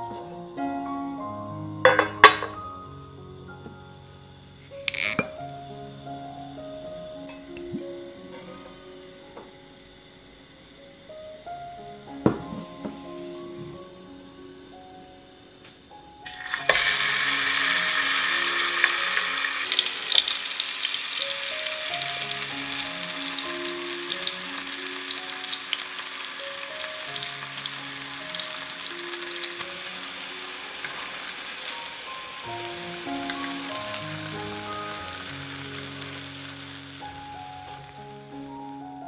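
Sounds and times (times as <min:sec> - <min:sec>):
mushroom slices sizzling in oil: 0:04.4 - 0:15.0, 0:15.8 - 0:39.0.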